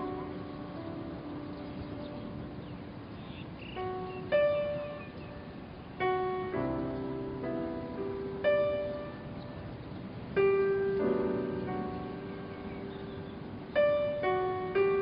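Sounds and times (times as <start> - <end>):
slow soft piano: 0.0 - 15.0.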